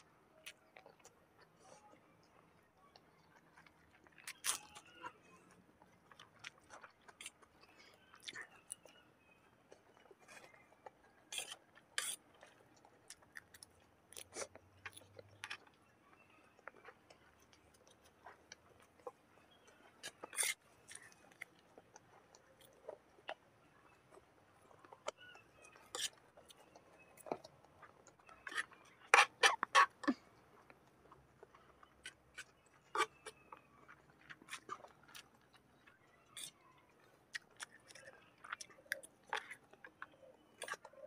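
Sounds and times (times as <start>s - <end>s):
chewing and eating mouth sounds: 0.0s - 41.0s.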